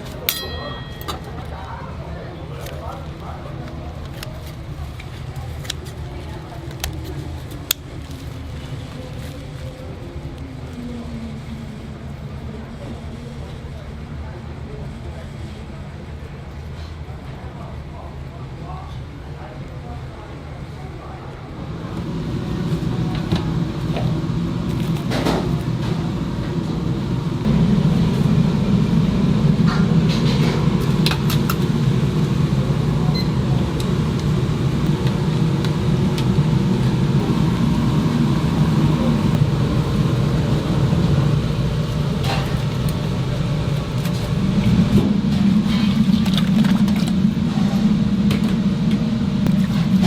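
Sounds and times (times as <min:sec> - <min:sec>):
low mechanical rumble: 0:00.0 - 0:18.8, 0:19.4 - 0:50.0.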